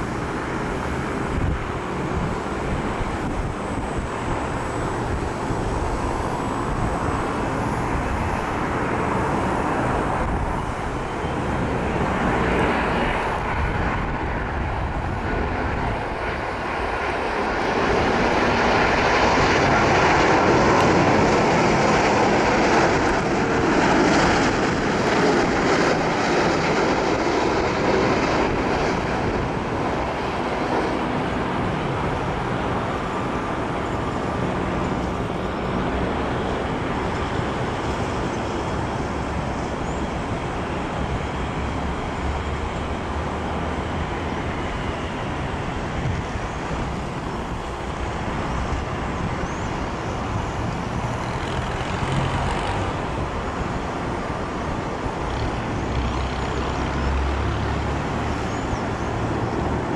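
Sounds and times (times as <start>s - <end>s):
jet airliner rumble and whine: 0.0s - 59.9s.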